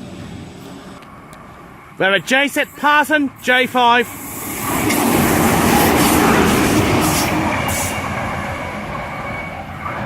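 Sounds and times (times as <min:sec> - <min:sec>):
train rumbling past: 0:00.0 - 0:10.0.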